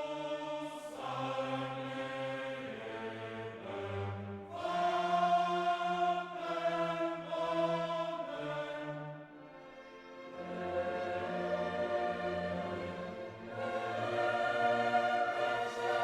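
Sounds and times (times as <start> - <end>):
choral and orchestral music: 0.0 - 16.0.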